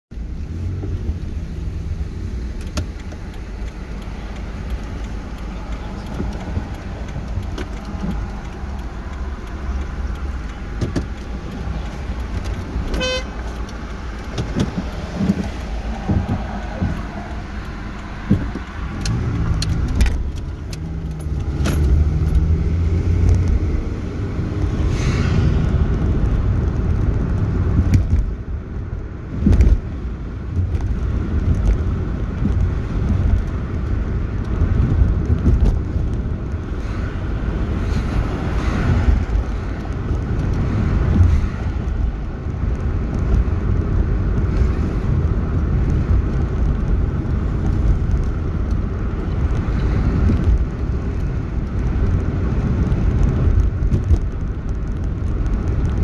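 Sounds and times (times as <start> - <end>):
car engine and tyre rumble: 0.1 - 56.0.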